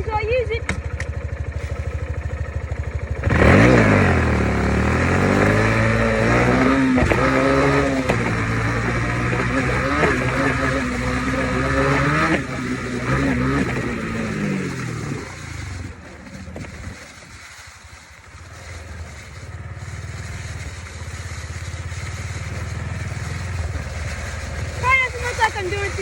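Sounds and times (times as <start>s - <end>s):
dirt bike engine revving: 0.0s - 26.0s
low even running sound: 0.0s - 26.0s.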